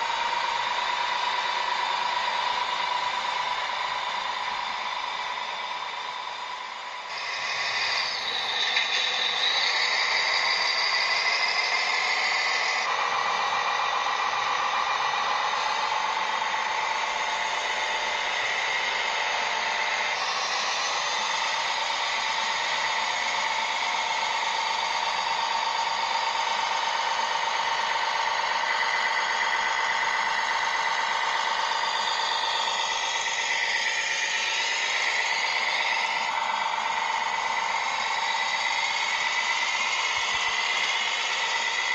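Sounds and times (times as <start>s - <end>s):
small electric motors whining: 0.0s - 41.9s.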